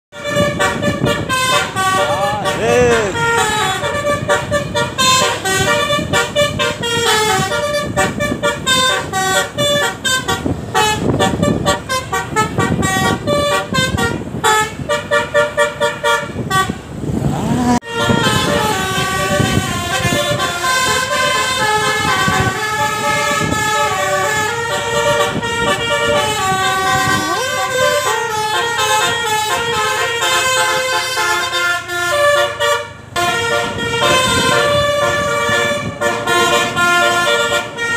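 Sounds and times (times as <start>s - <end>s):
bus horn playing a tune: 0.1s - 37.9s.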